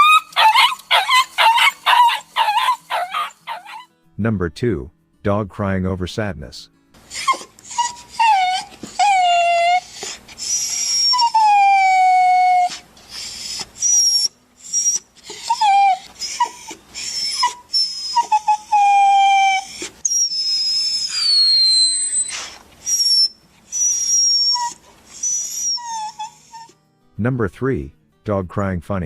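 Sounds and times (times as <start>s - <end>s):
dog whining and whimpering: 0.0s - 3.9s, 7.0s - 26.8s
dog yelping: 0.0s - 3.9s, 7.1s - 26.7s.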